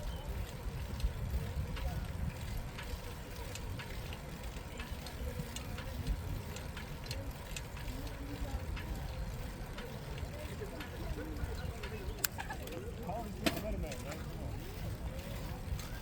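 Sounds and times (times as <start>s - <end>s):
light bicycle clicks: 0.0s - 16.0s
wind and tyres rumbling: 0.0s - 16.0s.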